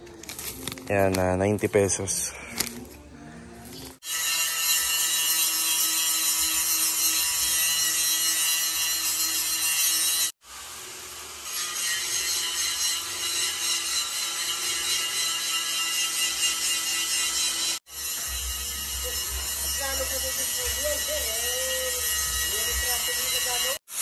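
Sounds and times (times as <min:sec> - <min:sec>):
power tool rasping: 0:04.0 - 0:24.0.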